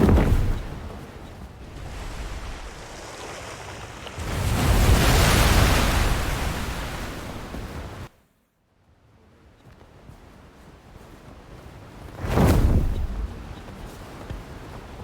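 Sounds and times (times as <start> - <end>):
rushing wind and surf: 0.0 - 8.1, 11.0 - 15.0.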